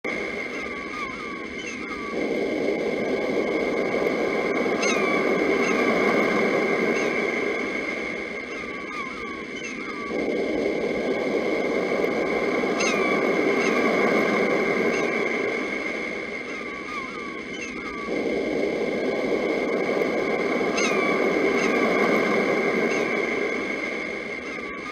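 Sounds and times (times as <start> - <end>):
birds chirping: 0.1 - 24.9
sea waves washing: 0.1 - 24.9.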